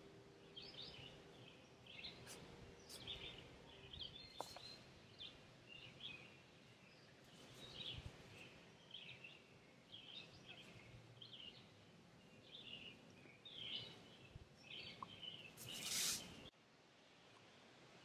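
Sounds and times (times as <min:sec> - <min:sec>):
faint high bird chirps: 0:00.4 - 0:16.5.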